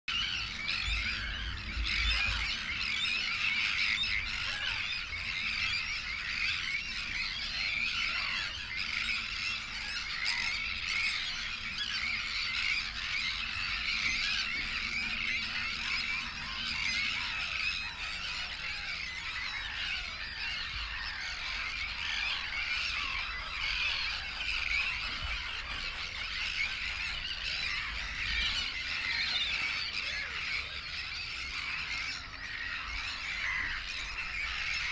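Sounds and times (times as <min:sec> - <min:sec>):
chorus of animal calls: 0:00.1 - 0:34.9.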